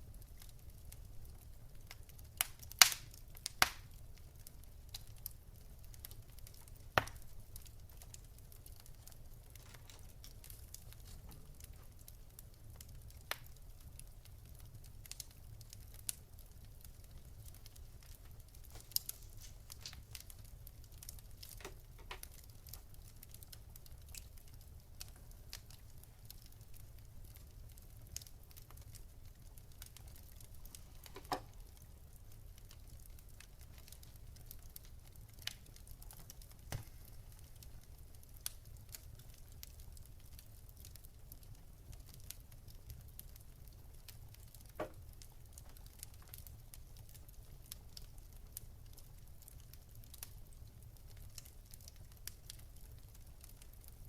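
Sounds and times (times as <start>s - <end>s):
wood fire crackling: 0.0s - 54.0s
fire pops and snaps: 0.1s - 54.0s.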